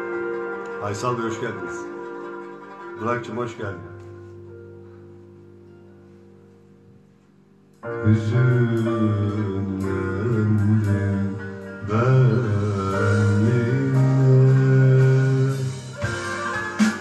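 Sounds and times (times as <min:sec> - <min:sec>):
held chord: 0:00.0 - 0:17.0
instrumental music: 0:00.0 - 0:17.0.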